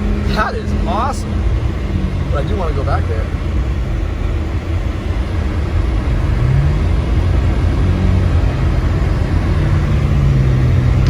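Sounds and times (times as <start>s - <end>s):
car engine rumble from inside cabin: 0.0s - 11.0s
tyres on snowy road: 0.0s - 11.0s.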